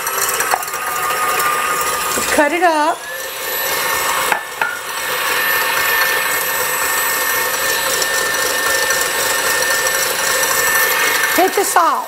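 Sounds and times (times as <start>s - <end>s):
stand mixer whirring: 0.0s - 12.0s.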